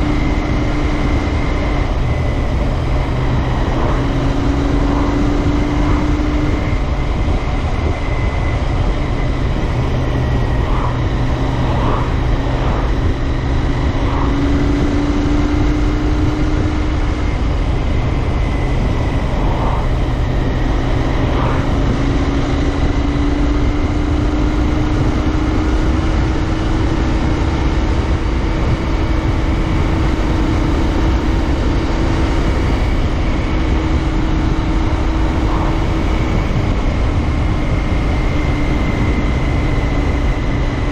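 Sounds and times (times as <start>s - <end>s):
heavy wind noise: 0.0s - 40.9s
motorcycle engine cruising: 0.0s - 40.9s
road rumble: 0.0s - 40.9s.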